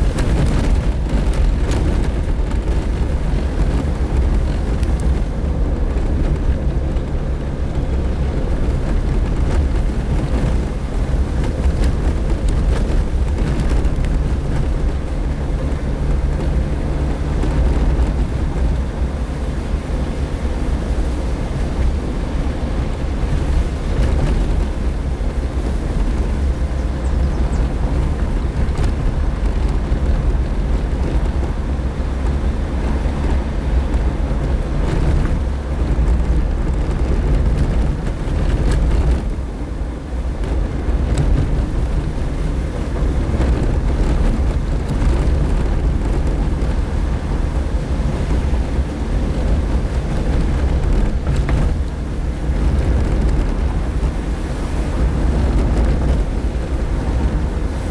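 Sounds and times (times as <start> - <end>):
engine and tyres rumbling: 0.0 - 57.9
wind buffeting microphone: 0.0 - 57.9.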